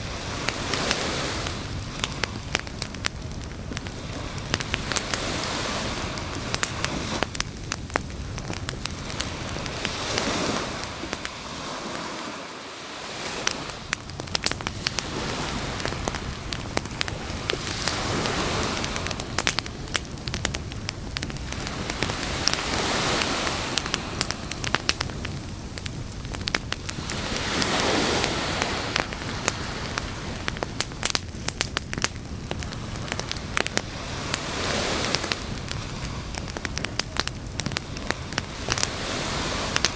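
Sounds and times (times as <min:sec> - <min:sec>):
campfire crackling and popping: 0:00.0 - 0:39.9
waves washing: 0:00.0 - 0:39.9.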